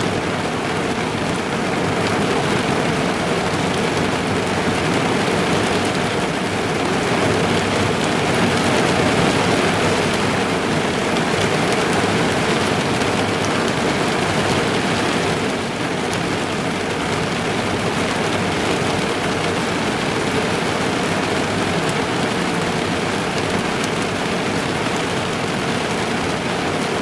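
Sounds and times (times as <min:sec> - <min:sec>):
heavy rain drumming on car roof: 0:00.0 - 0:27.0.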